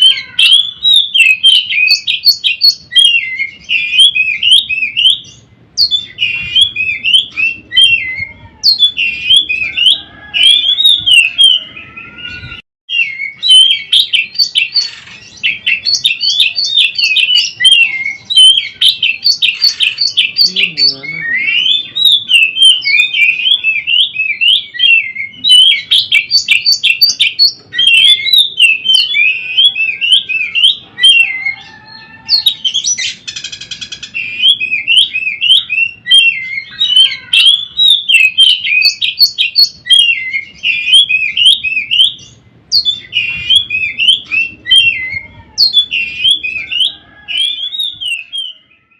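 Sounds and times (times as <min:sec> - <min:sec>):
bird singing chirps and whistles: 0:00.0 - 0:48.9.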